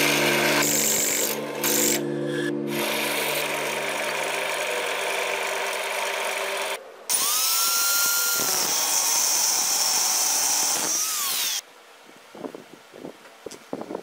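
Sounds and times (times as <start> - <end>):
angle grinder cutting steel: 0.0 - 11.6
drill press running: 0.0 - 11.6.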